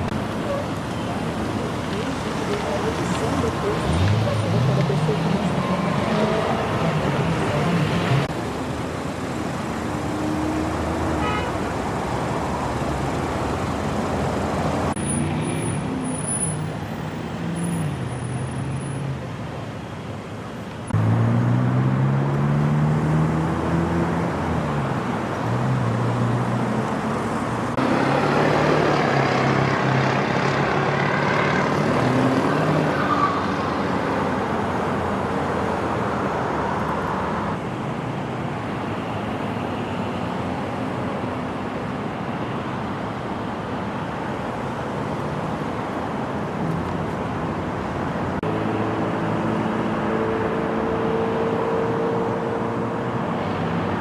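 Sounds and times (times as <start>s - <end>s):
vehicle engines passing: 0.0s - 54.0s.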